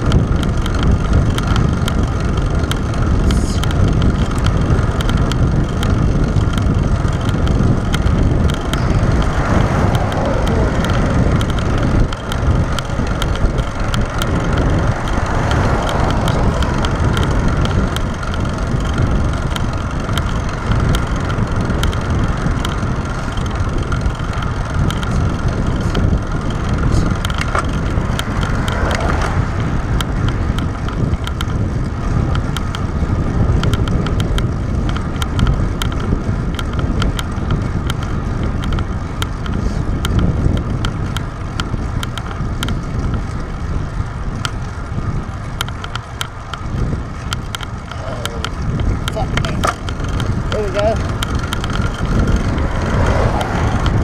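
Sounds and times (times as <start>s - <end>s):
small ticks: 0.0s - 54.0s
tyres humming on asphalt: 0.0s - 54.0s
wind buffeting microphone: 0.0s - 54.0s.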